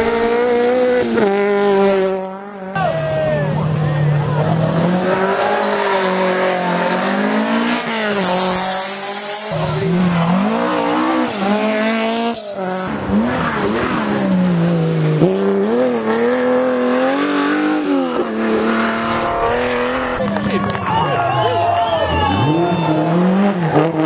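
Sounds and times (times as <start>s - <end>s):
rally car engines at full throttle: 0.0s - 24.0s.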